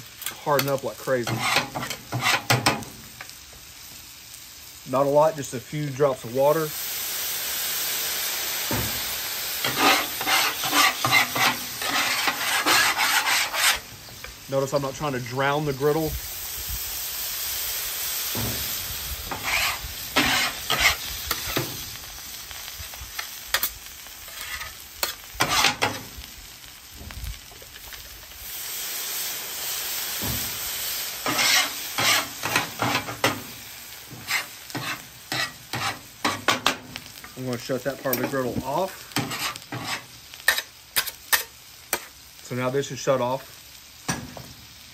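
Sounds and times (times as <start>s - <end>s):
water sizzling on hot griddle: 0.0s - 44.9s
scrubbing strokes on griddle: 0.5s - 2.8s, 7.8s - 42.2s.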